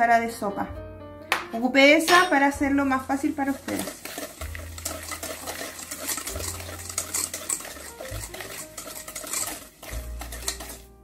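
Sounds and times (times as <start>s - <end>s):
whisk clinking against metal bowl: 2.1s - 11.0s.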